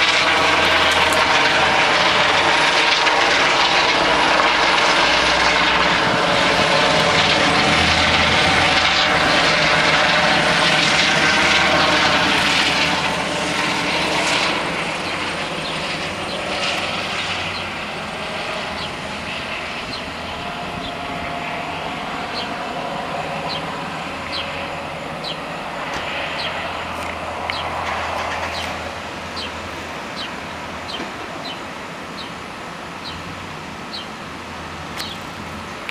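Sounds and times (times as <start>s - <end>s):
helicopter rotor and engine: 0.0s - 35.9s.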